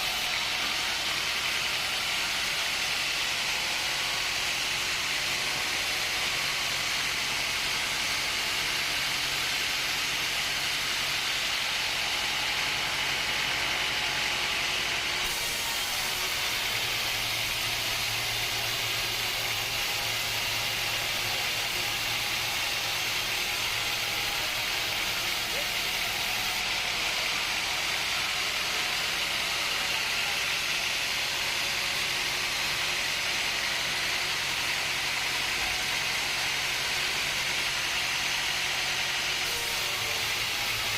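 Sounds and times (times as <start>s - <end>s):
hissing machinery noise: 0.0s - 40.9s.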